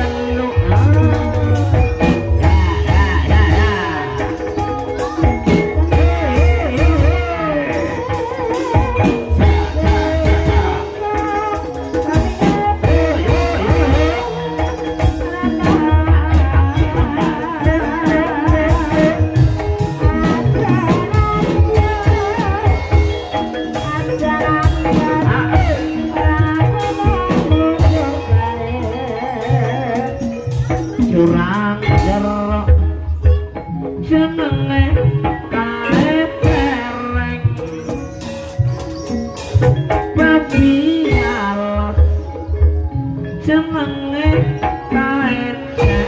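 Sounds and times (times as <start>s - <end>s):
gamelan ensemble music: 0.0s - 46.0s
person singing wavering melody: 0.0s - 46.0s
struck tuned percussion: 0.0s - 46.0s.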